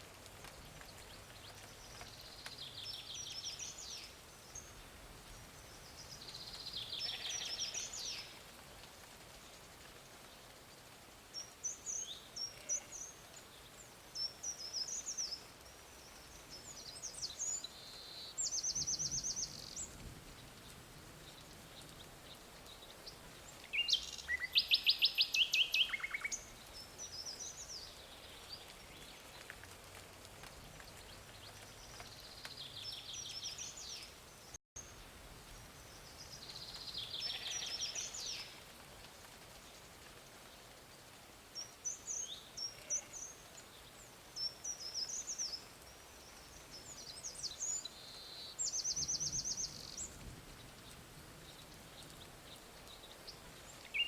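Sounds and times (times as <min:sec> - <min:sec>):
faint background hiss: 0:00.0 - 0:54.0
songbirds singing: 0:00.3 - 0:08.5, 0:09.4 - 0:29.7, 0:30.4 - 0:38.7, 0:39.6 - 0:54.0.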